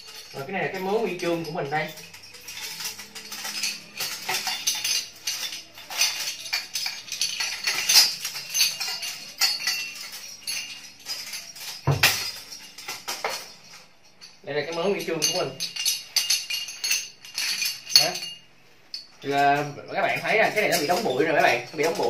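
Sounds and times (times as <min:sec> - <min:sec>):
metal medals clinking and jangling: 0:00.0 - 0:22.0.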